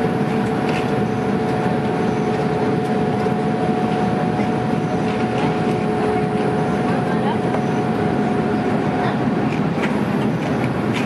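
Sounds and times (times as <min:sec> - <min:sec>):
airliner cabin rumble: 0:00.0 - 0:11.0
steady humming tones: 0:00.0 - 0:11.0.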